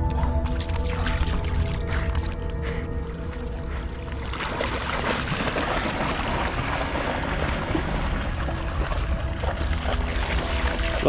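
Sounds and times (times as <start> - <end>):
water splashing and rushing: 0.0 - 11.0.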